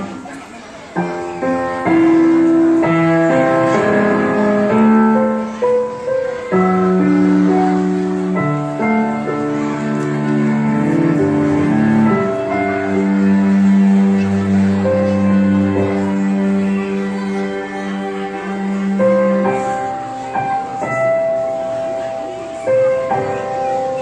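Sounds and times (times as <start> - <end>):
slow instrumental music: 1.0 - 24.0.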